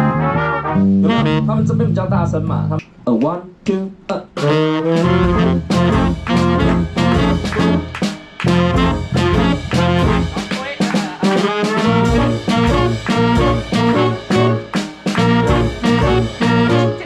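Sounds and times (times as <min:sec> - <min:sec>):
swing band playing: 0:00.0 - 0:02.8, 0:04.3 - 0:17.0.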